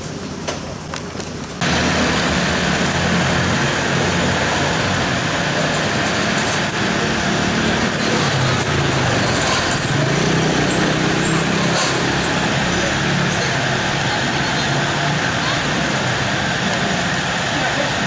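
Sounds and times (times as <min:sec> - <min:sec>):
truck engine running: 0:01.5 - 0:18.0.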